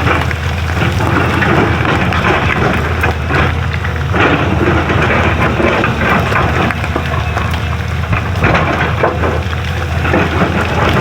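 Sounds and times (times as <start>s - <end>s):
bucket crunching and scraping road: 0.0s - 11.0s
diesel engine rumble: 0.0s - 11.0s.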